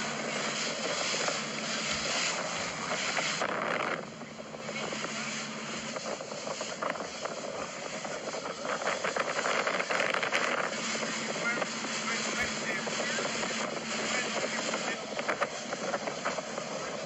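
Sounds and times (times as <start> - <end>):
motorboat engine hum: 0.0 - 17.0
rush of wind and water: 0.0 - 17.0.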